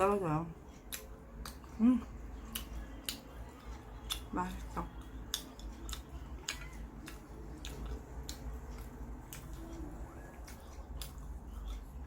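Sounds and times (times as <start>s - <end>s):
person chewing sticky bread: 0.5s - 12.0s.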